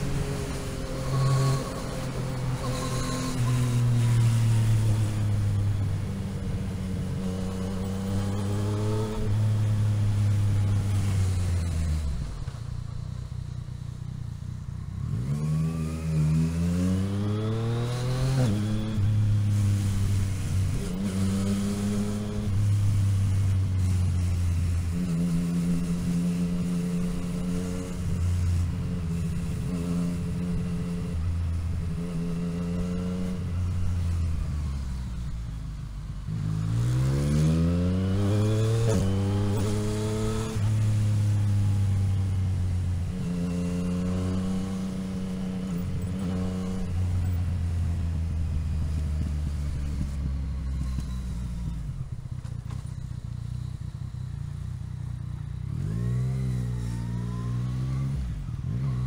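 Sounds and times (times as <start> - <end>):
motorcycle engine revving: 0.0 - 13.0, 13.7 - 35.1, 36.2 - 59.0.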